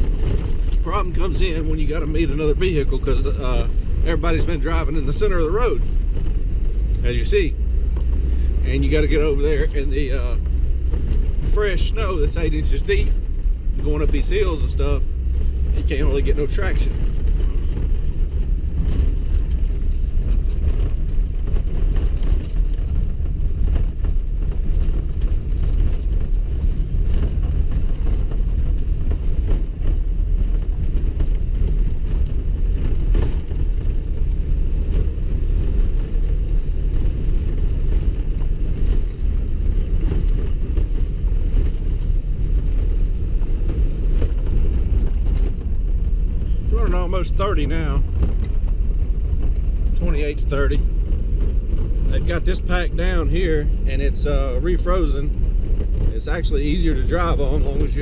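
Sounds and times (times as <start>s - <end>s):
tyres rumbling on snow: 0.0s - 58.0s.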